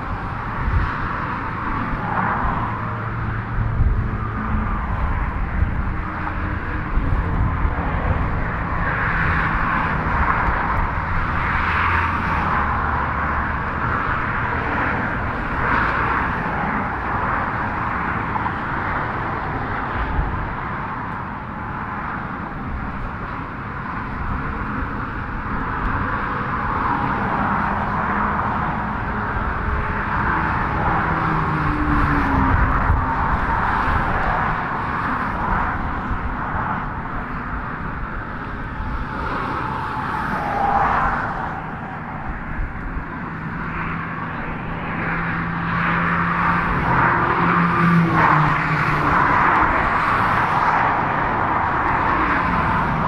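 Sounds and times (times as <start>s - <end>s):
highway traffic tyre noise: 0.0s - 53.0s.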